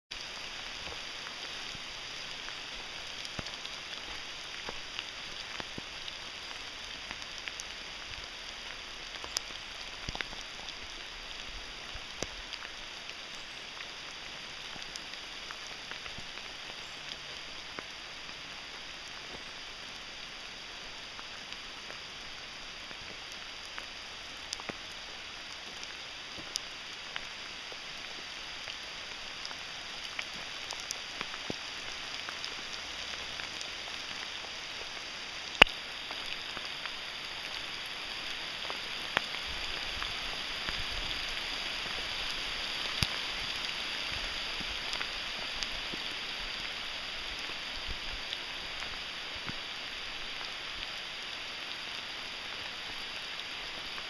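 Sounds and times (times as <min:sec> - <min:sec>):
steady rain in forest: 0:00.1 - 0:54.0.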